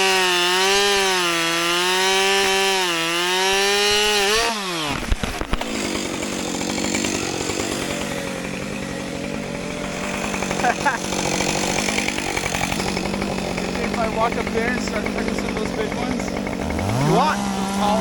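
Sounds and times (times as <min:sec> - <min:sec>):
chainsaw cutting wood: 0:00.0 - 0:18.0
faint chainsaw engine running: 0:00.0 - 0:18.0.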